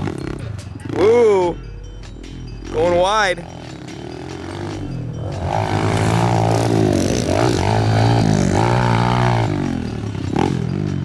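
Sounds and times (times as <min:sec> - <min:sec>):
motorbike engine revving: 0:00.0 - 0:01.6, 0:02.6 - 0:11.0.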